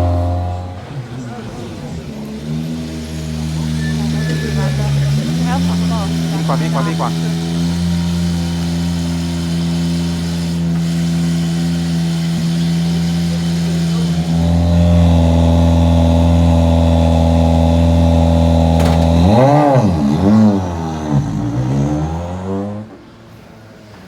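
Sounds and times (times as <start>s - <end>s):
rally car engine revving: 0.0s - 23.7s.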